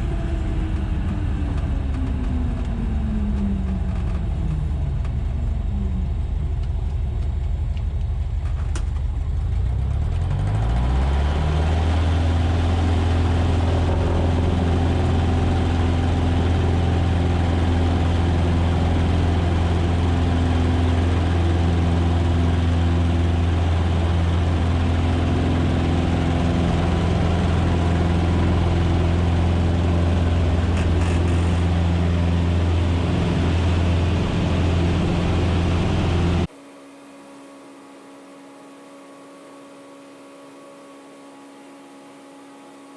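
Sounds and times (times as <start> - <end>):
airplane engine and propeller speeding up: 0.0 - 42.9.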